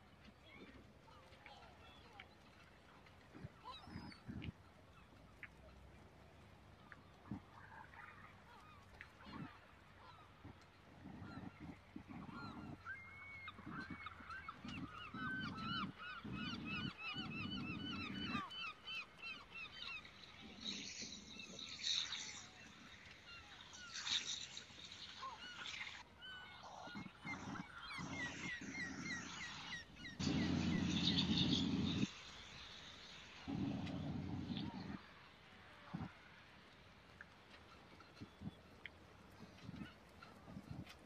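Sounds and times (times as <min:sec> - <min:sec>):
birds chirping: 0:00.0 - 0:36.4, 0:37.2 - 0:41.0.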